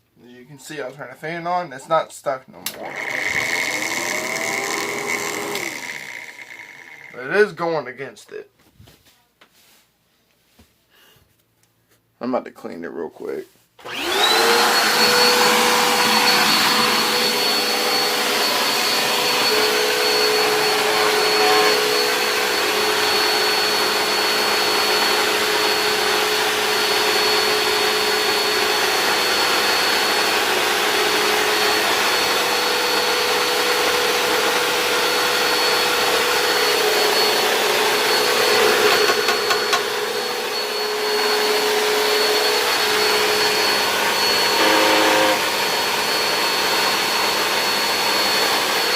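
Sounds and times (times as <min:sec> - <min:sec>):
vacuum cleaner running: 0:02.6 - 0:07.5, 0:13.8 - 0:48.9.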